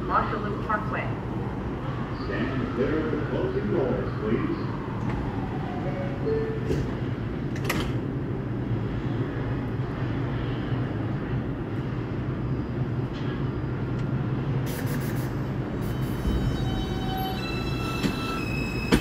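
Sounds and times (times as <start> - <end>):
subway train humming: 0.0 - 19.0.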